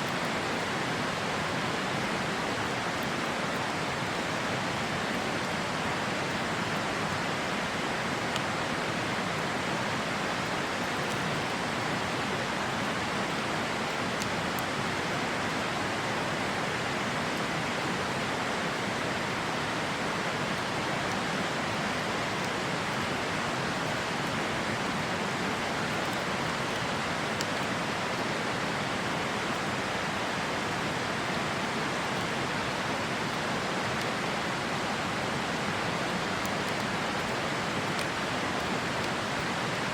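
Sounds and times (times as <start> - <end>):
campfire crackling: 0.0 - 39.9
river rushing: 0.0 - 39.9.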